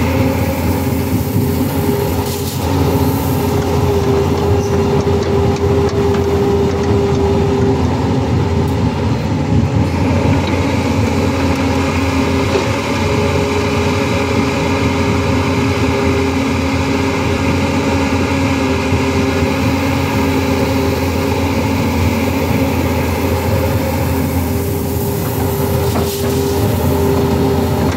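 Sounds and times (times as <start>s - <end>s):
excavator diesel engine: 0.0s - 27.9s
hydraulic whine: 0.0s - 27.9s.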